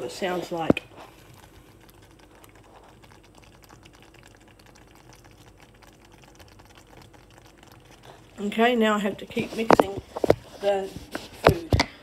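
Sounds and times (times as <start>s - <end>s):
risotto bubbling in a saucepan: 0.0s - 12.0s.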